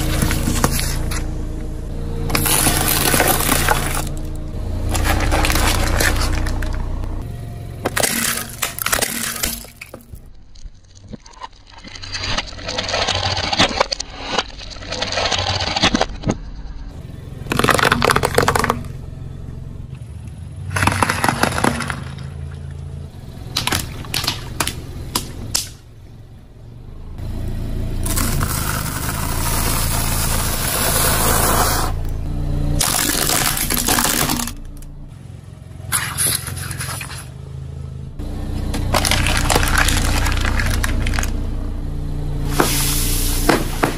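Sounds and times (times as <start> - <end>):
low engine hum: 0.0 - 11.8, 16.3 - 43.9.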